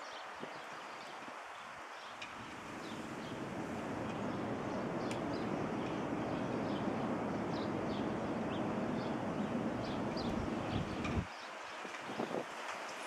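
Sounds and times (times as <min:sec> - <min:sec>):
blizzard wind blowing: 0:02.3 - 0:13.0.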